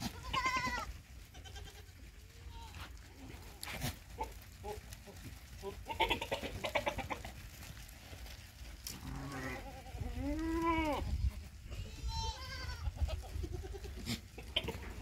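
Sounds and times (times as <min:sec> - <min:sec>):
goats bleating: 0:00.0 - 0:07.9, 0:08.8 - 0:15.0.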